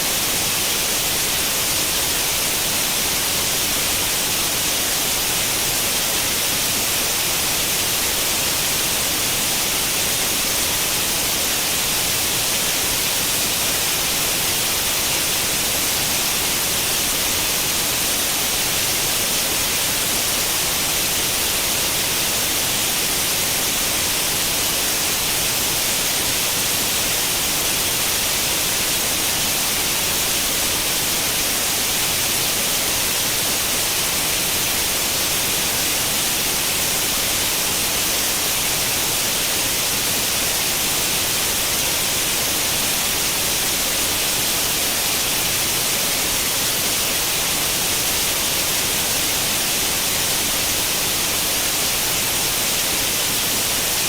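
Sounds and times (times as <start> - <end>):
steady static hiss: 0.0 - 54.0.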